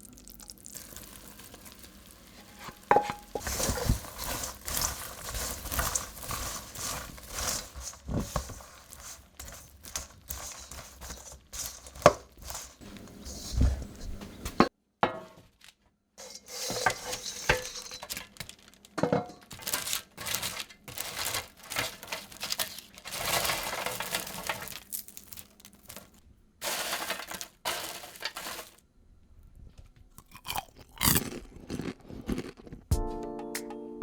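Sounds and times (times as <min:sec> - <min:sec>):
popcorn crunching: 0:00.0 - 0:14.0, 0:16.2 - 0:28.8, 0:30.1 - 0:33.1.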